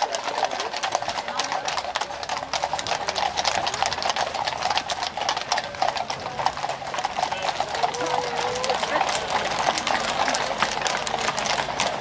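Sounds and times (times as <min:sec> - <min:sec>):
horse hooves clip-clopping on pavement: 0:00.0 - 0:12.0.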